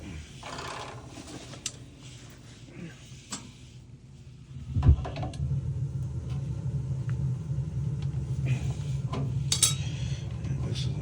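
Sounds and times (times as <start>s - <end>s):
gas burner rumbling: 0.0s - 11.0s.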